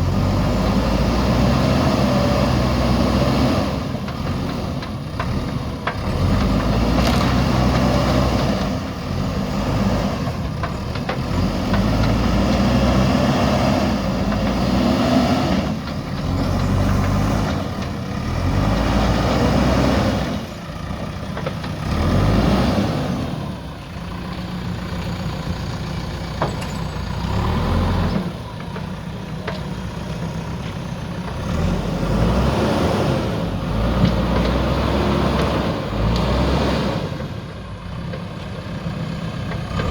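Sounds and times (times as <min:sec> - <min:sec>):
diesel engine revving under load: 0:00.0 - 0:39.9.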